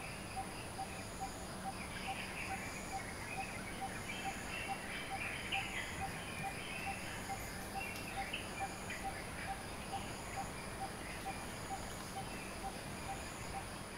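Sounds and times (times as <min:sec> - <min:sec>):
birds chirping and twittering: 0:00.0 - 0:13.9.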